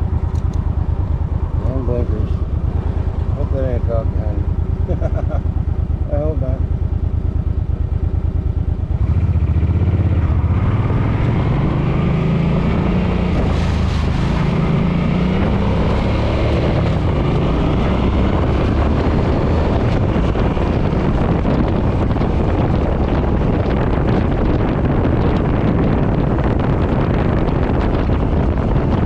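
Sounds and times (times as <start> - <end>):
motorcycle engine: 0.0 - 29.0
wind rushing over microphone: 0.0 - 29.0.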